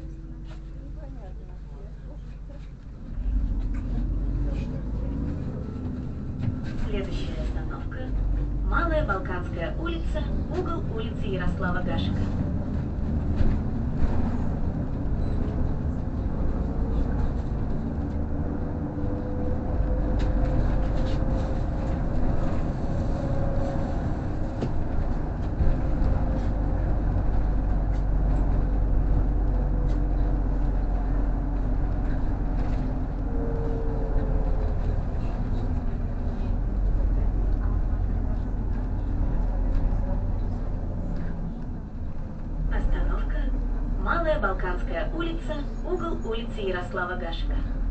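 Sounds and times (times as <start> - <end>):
bus engine rumble: 0.0 - 47.9
road noise: 0.0 - 47.9.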